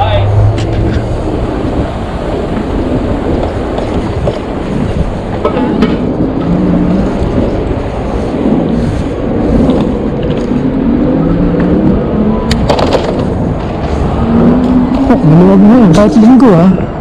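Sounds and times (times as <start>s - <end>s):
city traffic passing: 0.0s - 17.0s
wind buffeting microphone: 0.0s - 17.0s.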